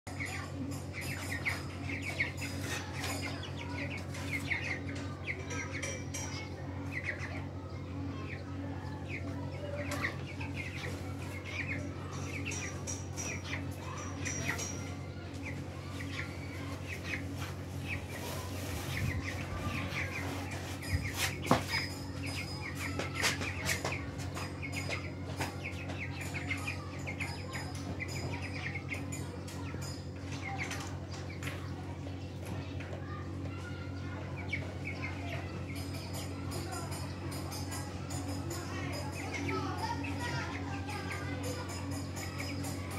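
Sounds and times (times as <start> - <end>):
chicks peeping: 0.1 - 42.9
steady low hum: 0.1 - 42.9.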